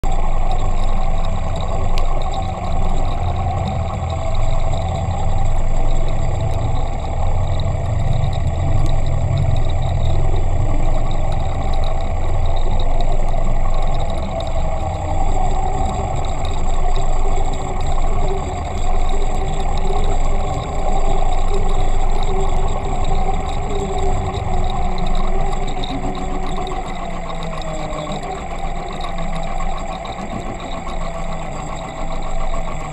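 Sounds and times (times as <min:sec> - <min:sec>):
constant whine: 0:00.0 - 0:32.9
low hum: 0:00.0 - 0:32.9
underwater motor drone: 0:00.0 - 0:32.9.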